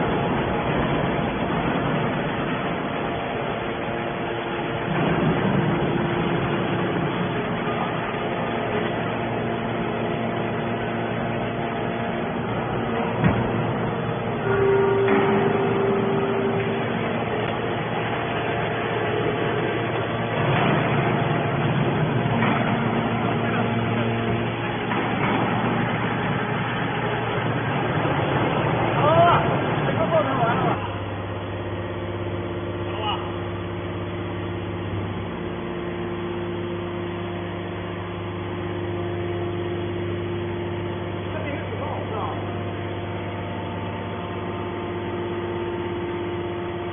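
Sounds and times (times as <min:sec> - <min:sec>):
hydraulic baler machine noise: 0:00.0 - 0:46.9.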